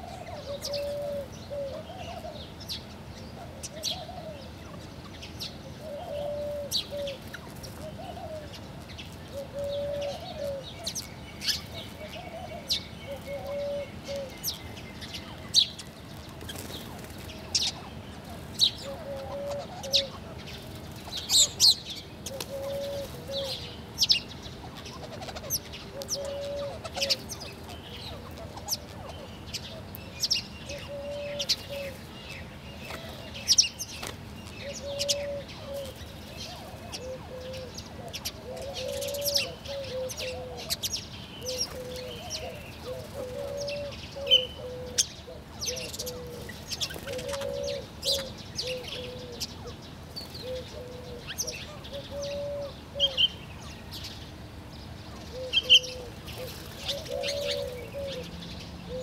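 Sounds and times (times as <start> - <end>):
dove cooing: 0.0 - 53.3, 55.1 - 59.0
sparrows chirping: 0.0 - 59.0.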